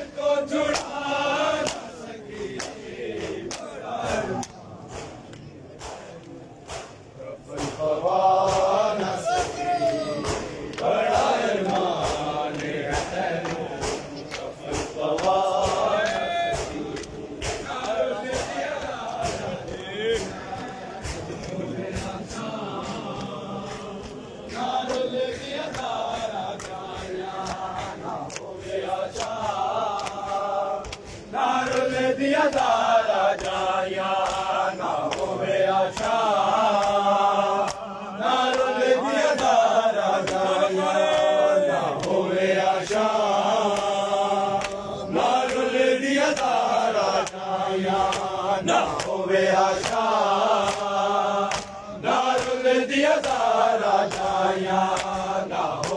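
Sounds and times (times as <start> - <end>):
men chanting a lament: 0.0 - 55.9
hands slapping chests: 0.6 - 55.9.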